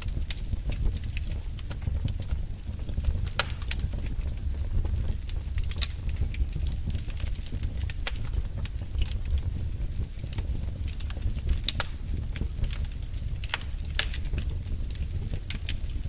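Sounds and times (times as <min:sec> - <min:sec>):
fire crackling and popping: 0:00.0 - 0:16.0
fire flames roaring: 0:00.0 - 0:16.0.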